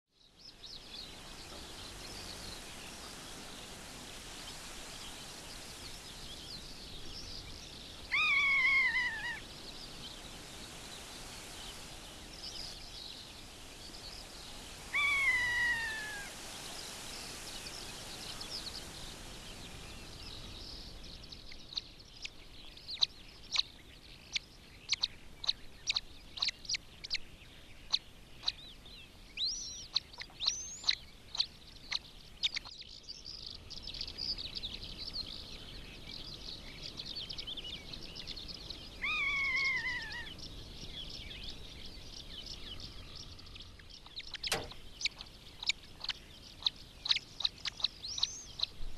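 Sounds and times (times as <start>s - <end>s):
faint small bird chirps: 4.4s - 48.9s.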